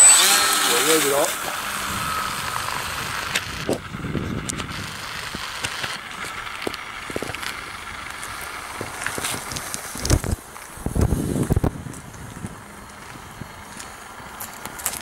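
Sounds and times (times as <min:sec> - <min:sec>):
wind rumbling on microphone: 0:01.6 - 0:14.3.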